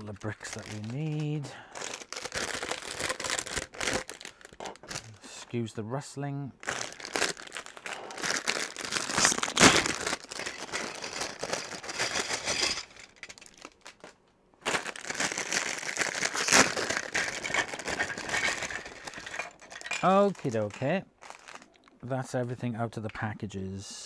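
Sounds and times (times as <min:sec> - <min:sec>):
plastic packets crinkling: 0:00.0 - 0:05.5, 0:06.6 - 0:22.0.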